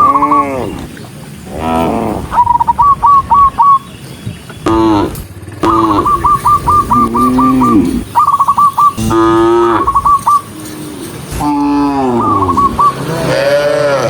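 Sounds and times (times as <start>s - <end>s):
high chirping notes: 0.0s - 0.6s, 2.3s - 13.4s
cows mooing: 0.0s - 2.4s, 4.6s - 14.0s.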